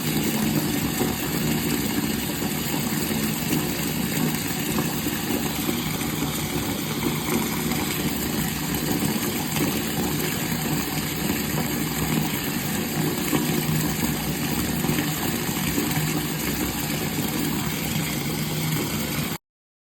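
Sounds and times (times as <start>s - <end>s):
water running from a faucet: 0.0s - 19.4s.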